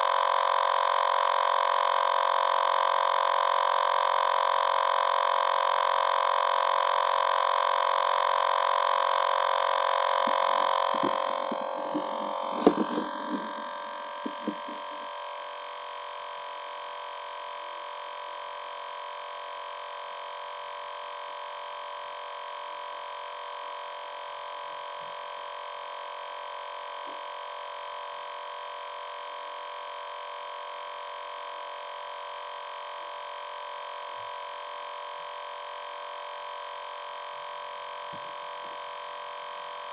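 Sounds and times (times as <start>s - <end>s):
steady electronic hum: 0.0s - 39.9s.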